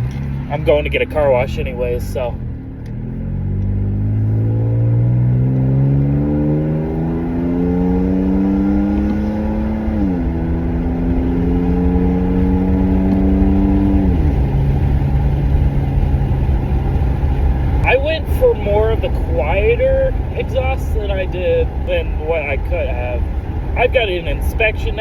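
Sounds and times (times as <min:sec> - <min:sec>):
truck engine accelerating: 0:00.0 - 0:25.0.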